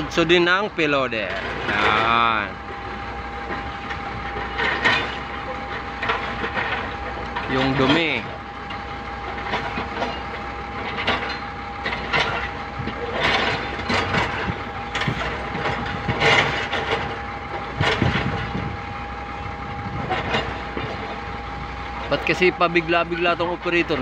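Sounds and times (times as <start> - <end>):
diesel engines running with whine: 0.0 - 24.0
excavator clanks and knocks: 0.0 - 24.0.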